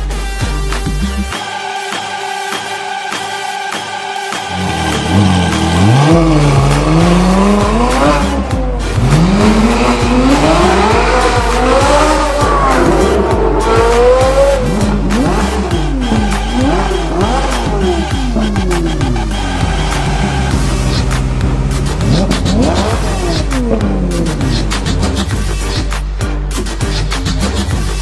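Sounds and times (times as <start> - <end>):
background music with bass: 0.0 - 28.0
sports car engine revving: 4.4 - 28.0.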